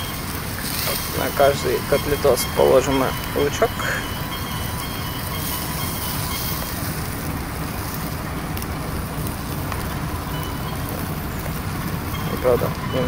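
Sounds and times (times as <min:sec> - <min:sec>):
burger patties sizzling on grill: 0:00.0 - 0:13.0
faint crackles: 0:00.0 - 0:13.0
fat dripping on hot coals: 0:00.0 - 0:13.0
low rumble: 0:00.0 - 0:13.0.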